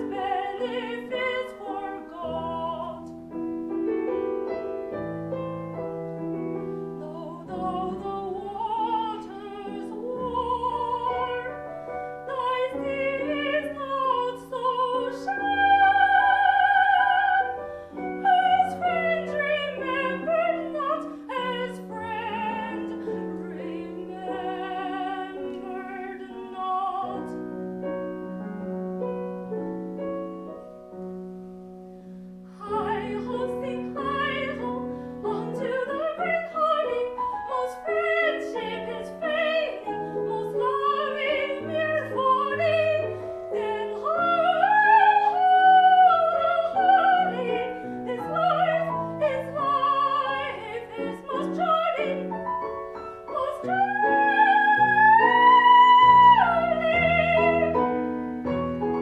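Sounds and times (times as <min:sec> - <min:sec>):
piano accompaniment: 0:00.0 - 0:59.0
soprano singing: 0:00.0 - 0:59.0.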